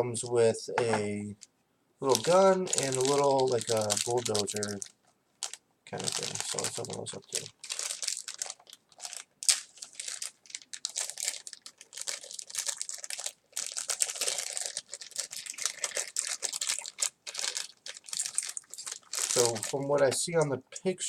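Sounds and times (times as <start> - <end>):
plastic packaging crinkling and tearing: 2.0 - 20.4.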